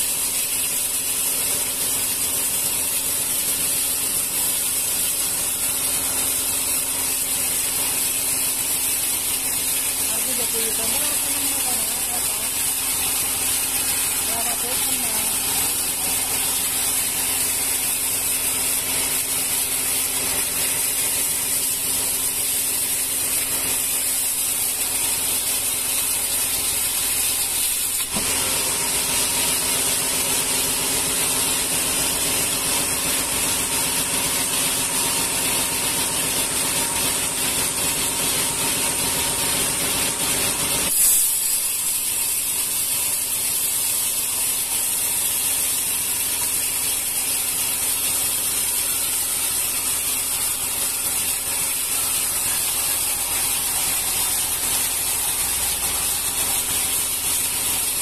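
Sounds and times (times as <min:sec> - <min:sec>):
sawmill machine hum: 0:00.0 - 0:41.0, 0:41.6 - 0:58.0
saw blade hissing through log: 0:00.0 - 0:58.0.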